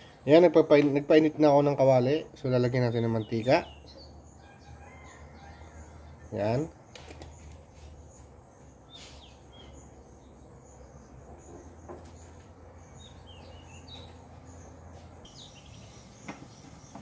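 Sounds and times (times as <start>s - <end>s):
faint small birds chirping: 2.6s - 17.0s.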